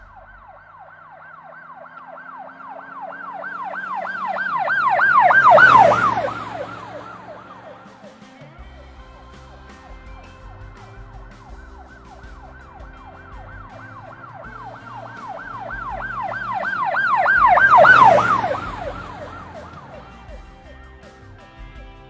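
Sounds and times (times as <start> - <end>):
siren yelping: 0.0 - 8.5, 9.2 - 20.5.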